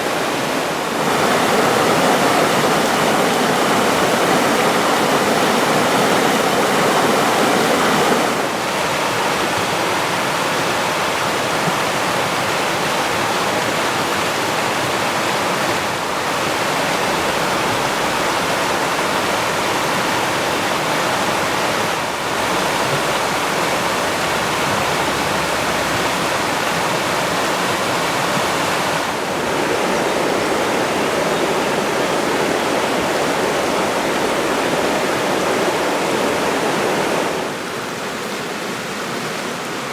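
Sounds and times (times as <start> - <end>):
mountain water rushing: 0.0 - 39.9.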